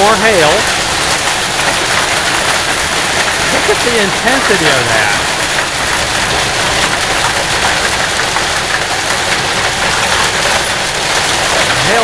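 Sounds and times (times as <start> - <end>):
hail on wooden deck: 0.0 - 12.0.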